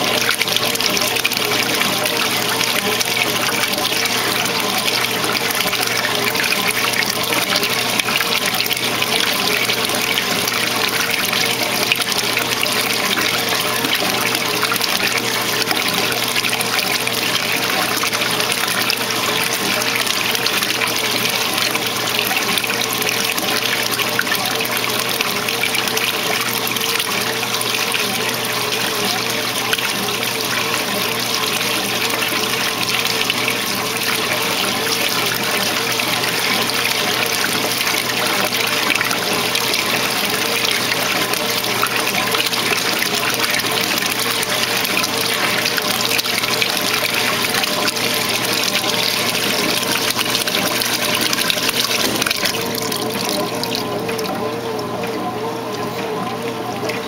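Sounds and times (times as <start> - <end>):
washer motor hum: 0.0 - 57.0
water churning in washer tub: 0.0 - 57.0.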